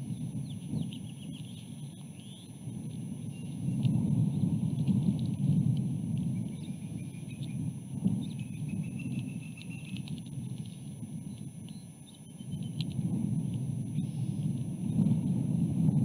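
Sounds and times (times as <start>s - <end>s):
faint whistle-like tones: 0.0s - 16.0s
wind buffeting microphone: 0.0s - 16.0s.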